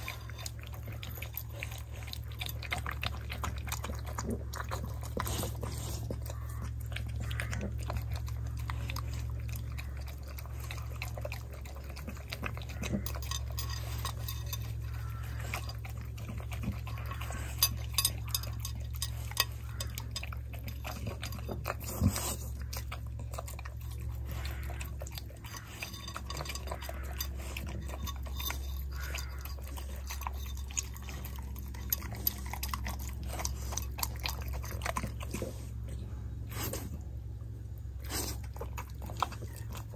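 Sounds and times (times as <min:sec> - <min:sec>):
dog chewing and licking: 0:00.0 - 0:39.9
steady low rumble: 0:00.0 - 0:39.9.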